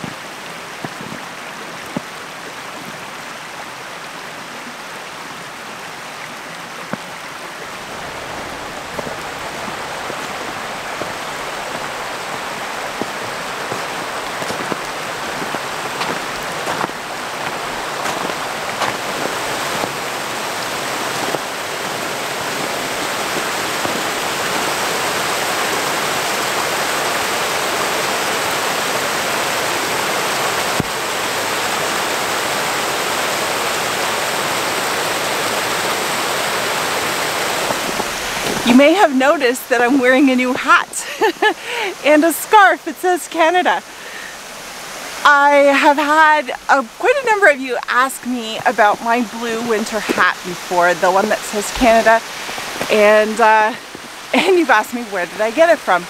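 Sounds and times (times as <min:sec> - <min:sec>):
rushing creek water: 0:00.0 - 0:56.0.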